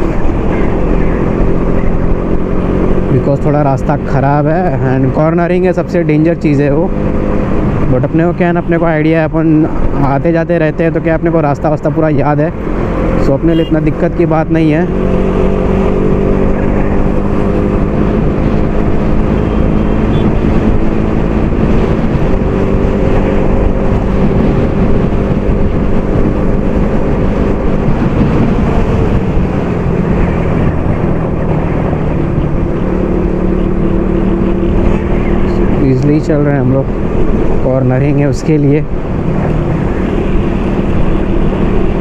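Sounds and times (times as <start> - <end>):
wind rush on microphone: 0.0 - 42.0.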